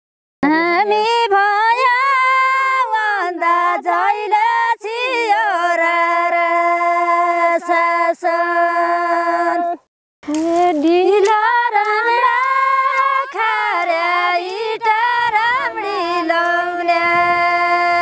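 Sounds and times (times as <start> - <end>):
woman singing unaccompanied: 0.4 - 18.0.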